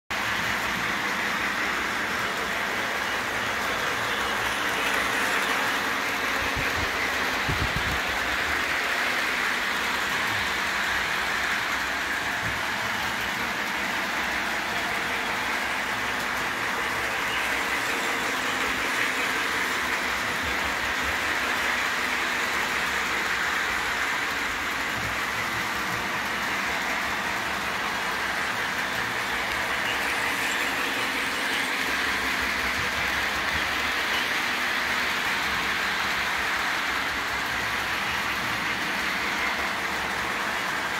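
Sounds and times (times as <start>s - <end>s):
locomotive motor: 0.1s - 40.9s
model train wheels whirring on rails: 0.1s - 40.9s.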